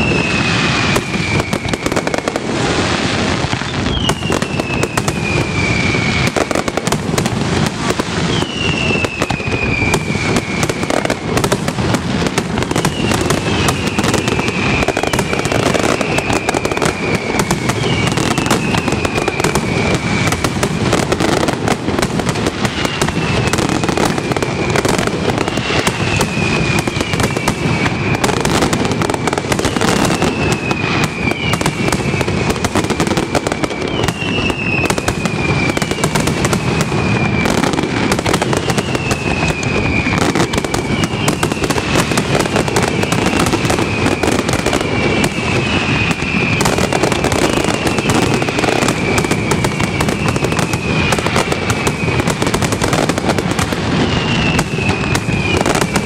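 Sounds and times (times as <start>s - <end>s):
high falling whistle: 0.0s - 2.3s, 3.5s - 6.8s, 8.2s - 11.3s, 12.6s - 21.5s, 22.6s - 53.1s, 54.0s - 56.0s
fireworks bangs and crackle: 0.0s - 56.0s.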